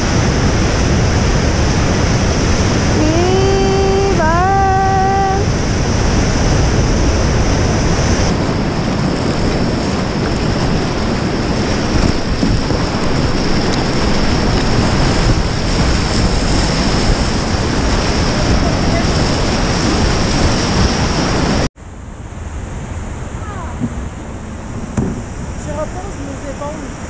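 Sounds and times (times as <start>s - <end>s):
whitewater rapids rushing: 0.0s - 21.7s
wind hitting microphone: 0.0s - 27.0s.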